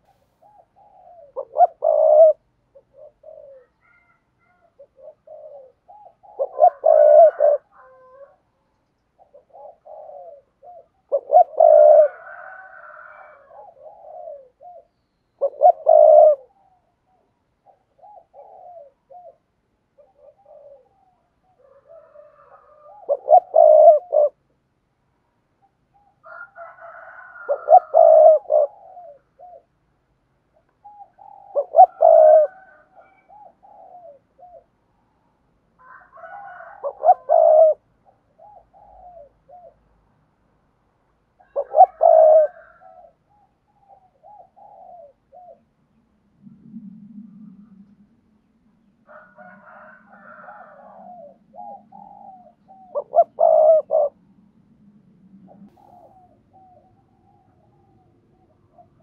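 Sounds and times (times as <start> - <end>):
dove cooing: 0.0 - 8.6, 9.2 - 24.5, 25.9 - 29.8, 30.5 - 40.0, 41.4 - 59.0.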